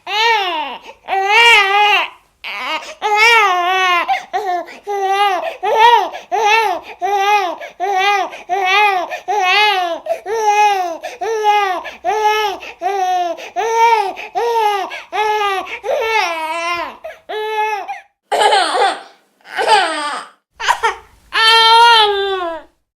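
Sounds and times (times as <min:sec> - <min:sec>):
baby crying: 0:00.0 - 0:22.7.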